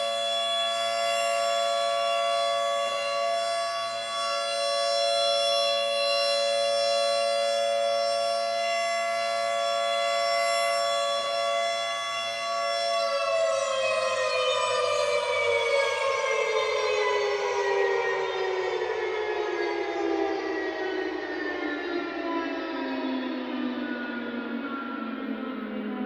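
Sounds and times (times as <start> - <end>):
two-tone emergency alert alarm: 0.0 - 26.0.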